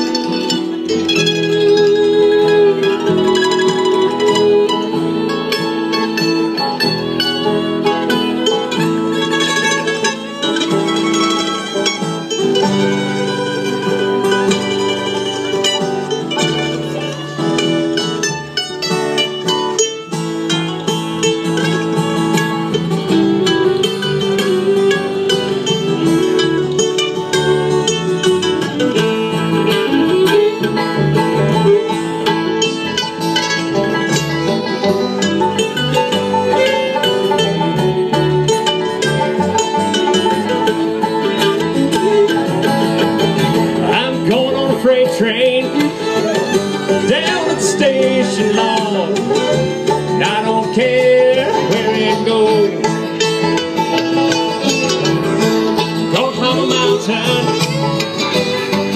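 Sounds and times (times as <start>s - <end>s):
acoustic guitar: 0.0s - 58.9s
banjo: 0.0s - 58.9s
fiddle: 0.0s - 58.9s
mandolin: 0.0s - 58.9s
upright bass: 0.0s - 58.9s.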